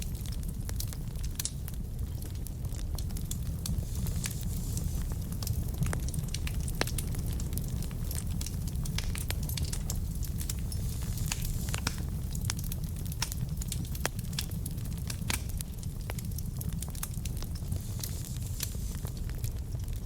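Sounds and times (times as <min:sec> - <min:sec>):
fire low rumble: 0:00.0 - 0:20.0
wood fire crackling and popping: 0:00.0 - 0:20.0.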